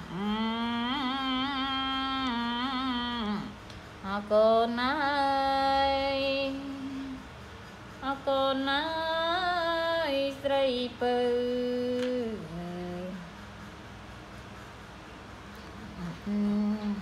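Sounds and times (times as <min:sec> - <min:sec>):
woman singing a lullaby: 0:00.0 - 0:13.5, 0:15.6 - 0:17.0.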